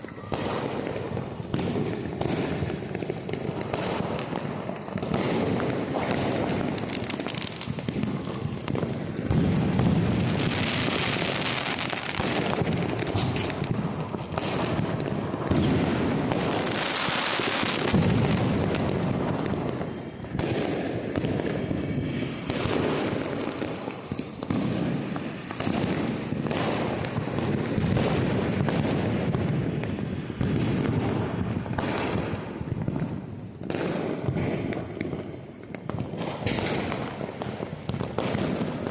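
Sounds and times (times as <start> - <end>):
firecracker bangs: 0.0 - 38.9
firecrackers crackling and popping: 0.0 - 38.9.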